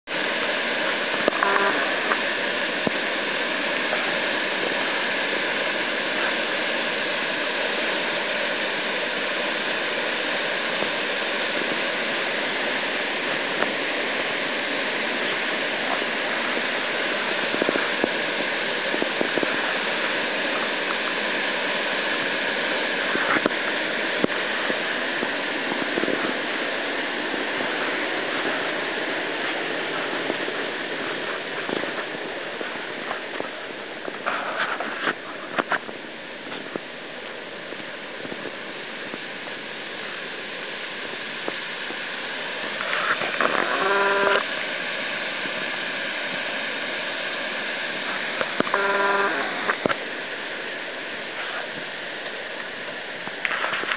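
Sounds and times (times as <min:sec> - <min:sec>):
river rushing through rapids: 0:00.1 - 0:53.9.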